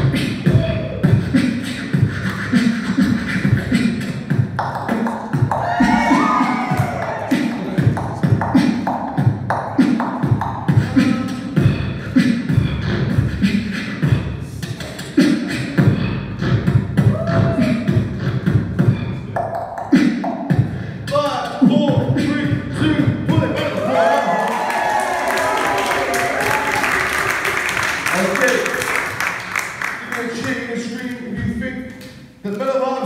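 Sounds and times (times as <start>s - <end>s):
beatboxing: 0.0s - 23.8s, 26.4s - 33.0s.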